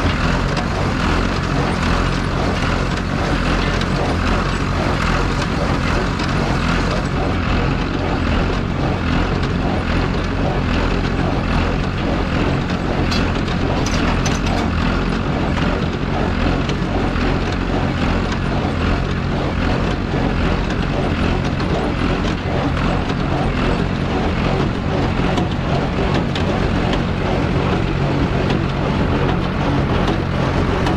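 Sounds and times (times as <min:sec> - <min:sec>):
baler working: 0:00.0 - 0:30.9
tractor running: 0:00.0 - 0:30.9.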